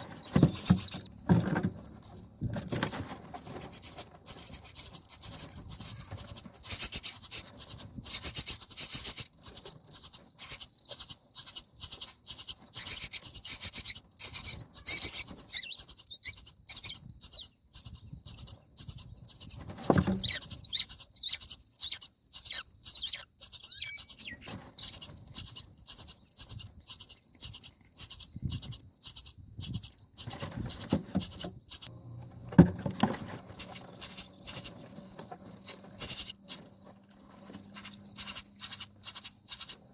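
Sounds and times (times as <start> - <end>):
nestlings calling raspily: 0.0 - 39.9.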